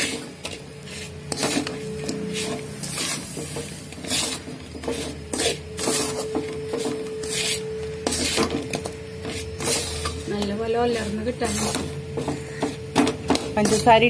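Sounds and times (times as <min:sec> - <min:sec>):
spatula scraping a pan: 0:00.0 - 0:14.0
steady hum: 0:00.0 - 0:14.0.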